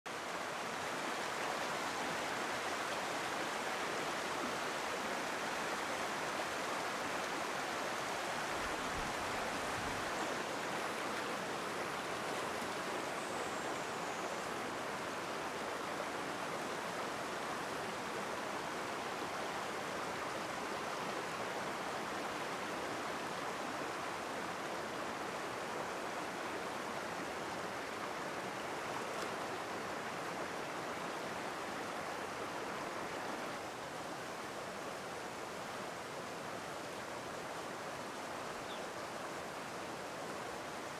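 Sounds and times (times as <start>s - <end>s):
stream running over rocks: 0.1s - 40.9s.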